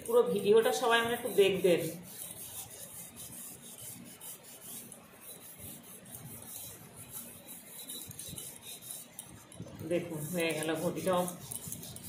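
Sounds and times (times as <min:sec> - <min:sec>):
lemon scrubbing brass pot: 0:00.0 - 0:12.0.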